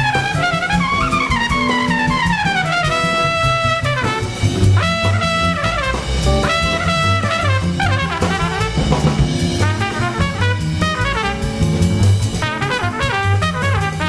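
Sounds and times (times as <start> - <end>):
drum kit beat: 0.0 - 14.0
jazz brass horns: 0.0 - 14.0.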